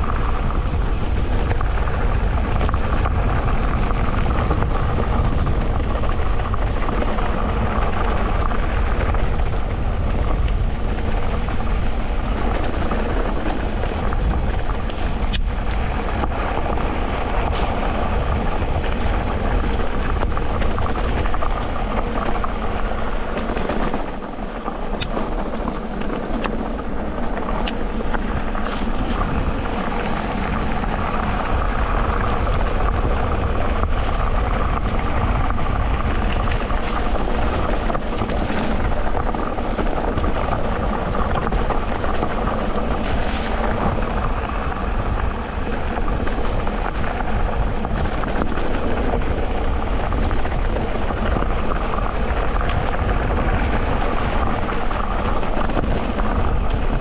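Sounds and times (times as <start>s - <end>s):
bike clicking and rattling: 0.0s - 57.0s
electric bike motor drone: 0.0s - 57.0s
tyres rumbling on dirt trail: 0.0s - 57.0s.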